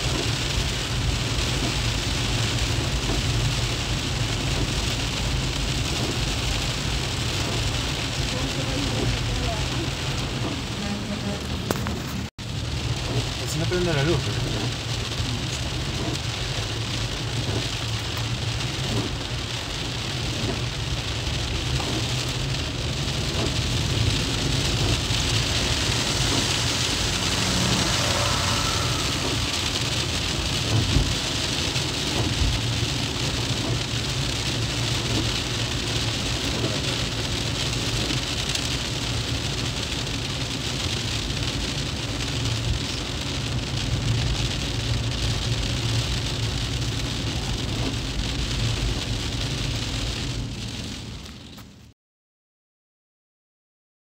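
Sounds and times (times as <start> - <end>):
tyres hissing on wet road: 0.0 - 51.9
low engine and road rumble: 0.0 - 52.0
rain on a car: 0.0 - 52.0.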